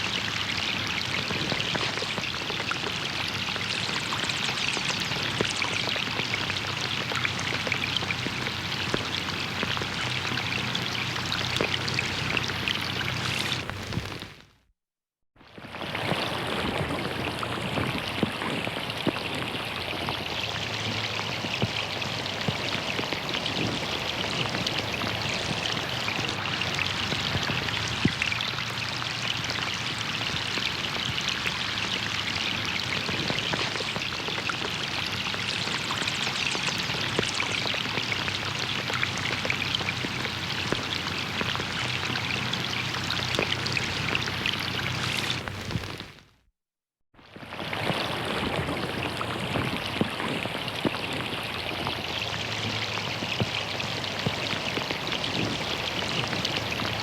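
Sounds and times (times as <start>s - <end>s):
water splashes: 0.0s - 14.4s, 15.4s - 46.3s, 47.2s - 57.0s
rain on pond water: 0.0s - 14.6s, 15.4s - 46.5s, 47.2s - 57.0s.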